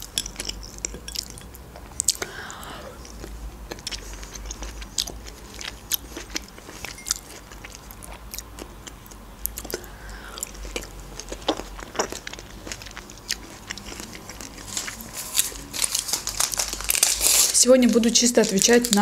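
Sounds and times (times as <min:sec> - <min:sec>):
person chewing: 0:00.0 - 0:17.6.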